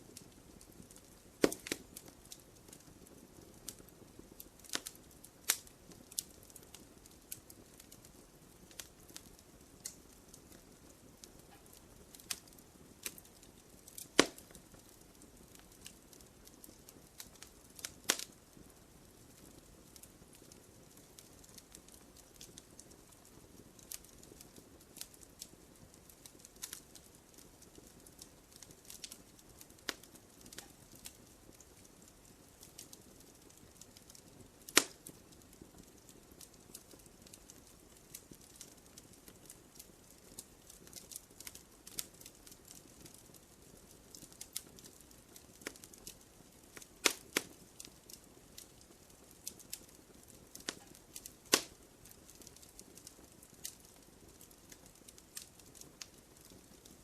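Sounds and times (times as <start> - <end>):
fireplace fire crackling: 0.0 - 57.0.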